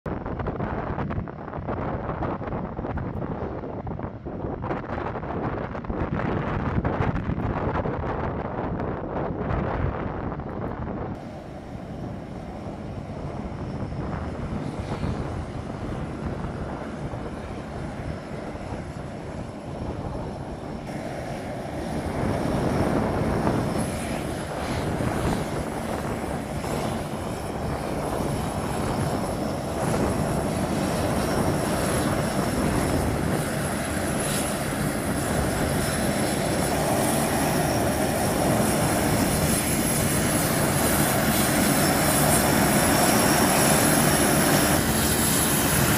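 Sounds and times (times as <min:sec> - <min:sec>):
high turbine whine: 0:00.1 - 0:45.9
turboprop aircraft taxiing: 0:00.1 - 0:45.9.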